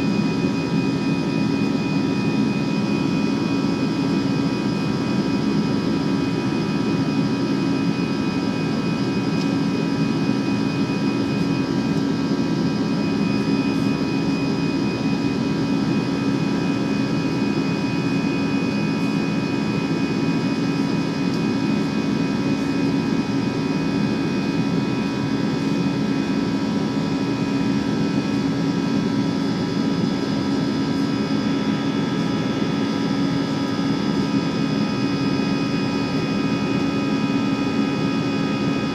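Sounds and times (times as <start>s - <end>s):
jet engine and airflow rumble: 0.0s - 38.9s.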